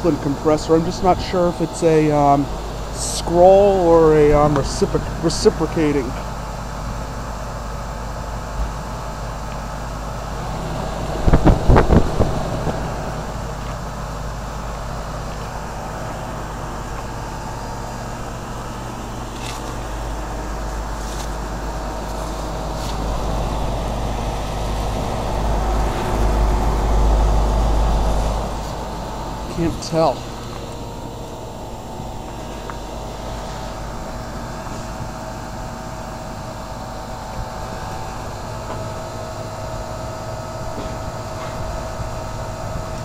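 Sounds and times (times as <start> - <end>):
heat pump unit humming: 0.0 - 43.0.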